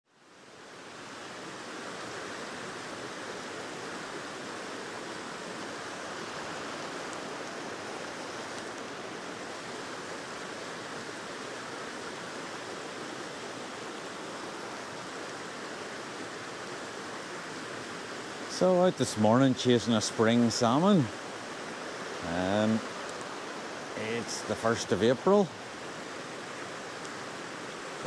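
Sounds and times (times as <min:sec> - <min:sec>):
river rushing over rocks: 0:00.1 - 0:28.0.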